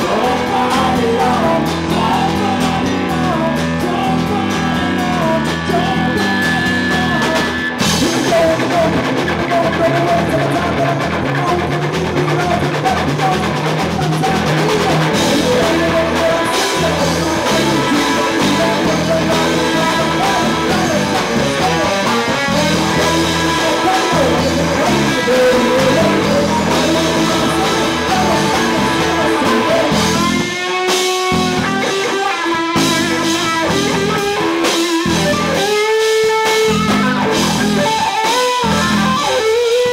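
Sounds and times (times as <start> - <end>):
drum kit: 0.0 - 39.9
electric guitars: 0.0 - 39.9
person singing: 0.0 - 39.9.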